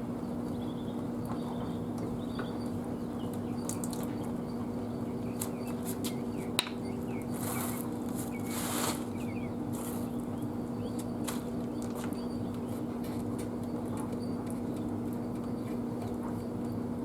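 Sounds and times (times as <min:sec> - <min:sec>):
steady low hum: 0:00.0 - 0:17.0
small birds chirping faintly: 0:00.2 - 0:16.9.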